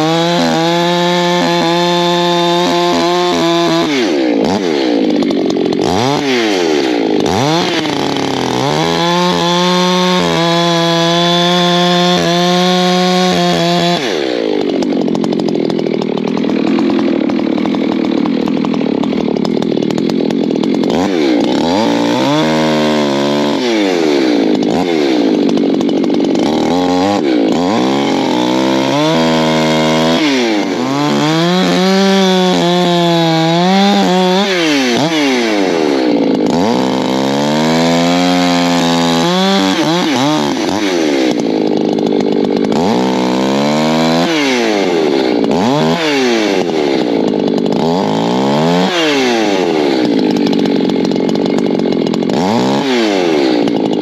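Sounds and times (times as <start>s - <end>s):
chainsaw revving and cutting logs: 0.0s - 54.0s.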